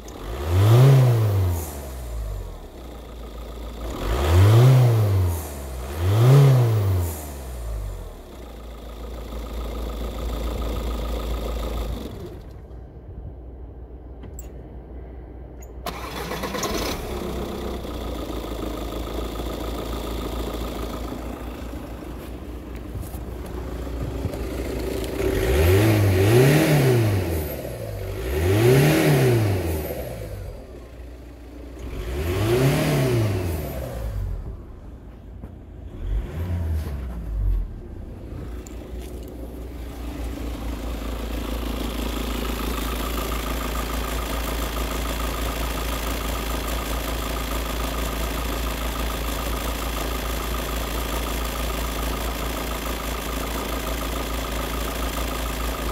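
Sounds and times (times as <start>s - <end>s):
diesel engine idling and revving: 0.0s - 55.9s.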